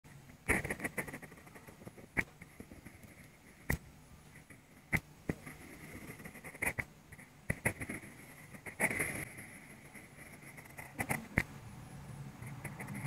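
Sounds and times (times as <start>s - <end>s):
pencil scratching on paper: 0.4s - 11.5s, 12.4s - 13.0s.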